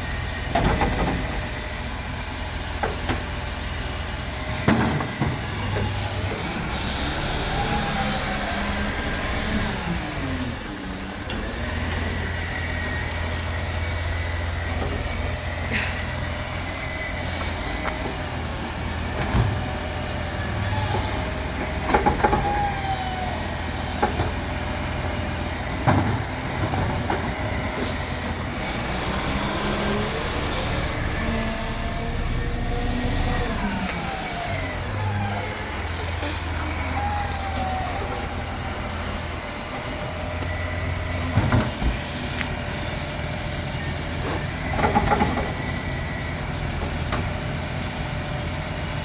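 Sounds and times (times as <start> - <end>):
truck engine running: 0.0 - 49.0
hydraulic arm whining: 4.2 - 47.8.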